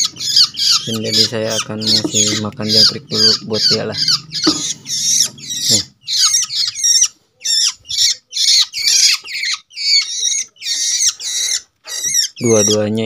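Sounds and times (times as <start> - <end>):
young shrikes harsh raspy calls: 0.0 - 13.0.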